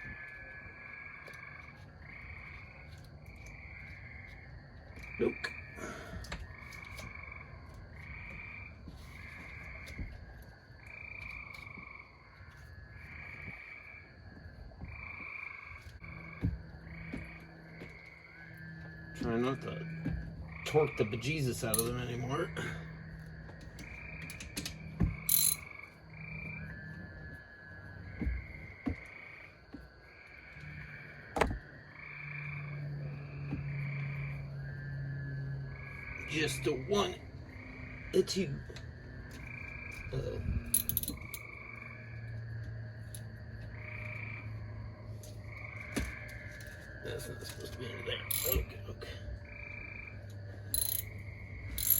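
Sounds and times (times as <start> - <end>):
frogs trilling: 0.0 - 51.9.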